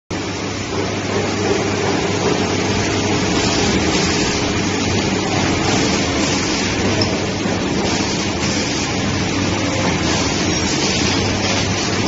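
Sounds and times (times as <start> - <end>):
packaging machine whirring: 0.7 - 12.0.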